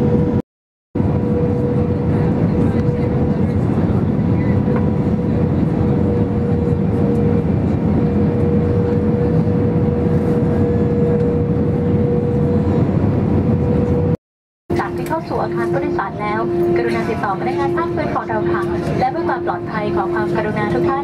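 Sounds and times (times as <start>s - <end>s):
jet engines rumbling: 1.0s - 21.0s
steady whine: 1.0s - 21.0s.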